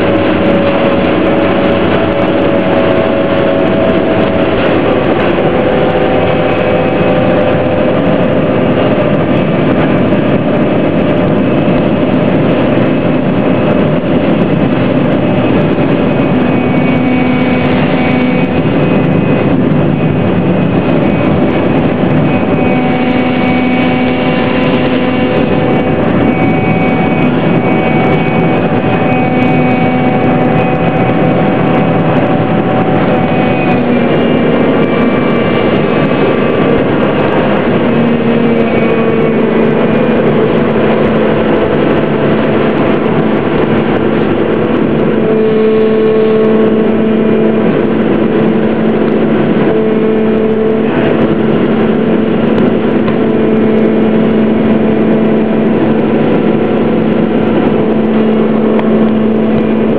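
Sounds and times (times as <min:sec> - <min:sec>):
ferry engine drone: 0:00.0 - 0:59.9.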